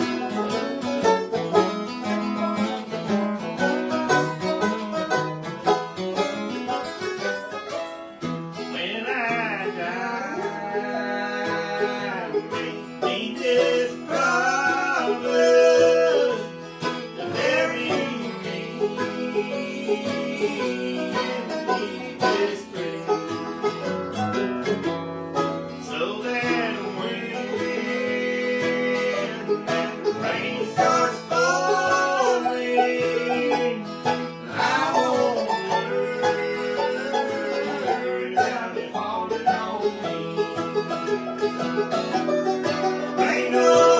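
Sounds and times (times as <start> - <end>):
banjo and guitar bluegrass music: 0.0 - 43.9.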